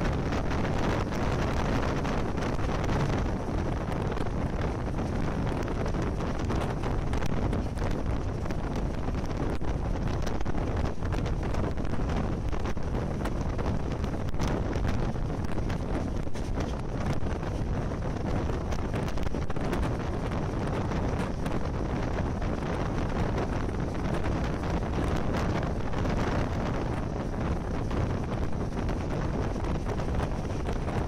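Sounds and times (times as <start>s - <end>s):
moving train rumbling: 0.0s - 31.0s
wind buffeting microphone: 0.0s - 31.0s.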